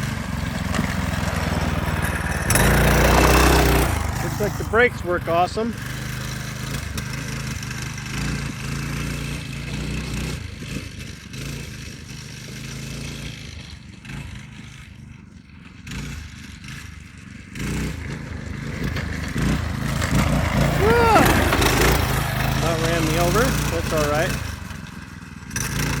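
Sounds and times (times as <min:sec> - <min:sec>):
go-kart engine running: 0:00.0 - 0:26.0.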